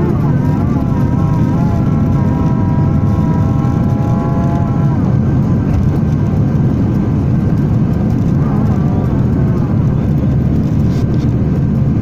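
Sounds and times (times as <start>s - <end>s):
jet engines and airflow rumble: 0.0s - 12.0s
steady whining tone: 0.0s - 12.0s.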